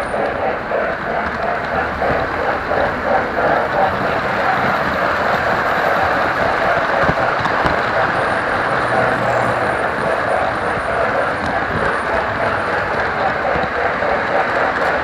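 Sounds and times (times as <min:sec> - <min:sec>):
model train motor whirring: 0:02.0 - 0:15.0.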